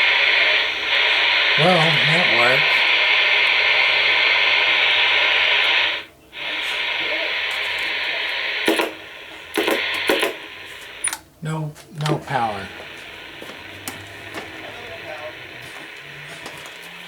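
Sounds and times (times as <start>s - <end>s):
radio clicks: 0.0s - 17.0s
radio static hissing: 0.0s - 17.0s.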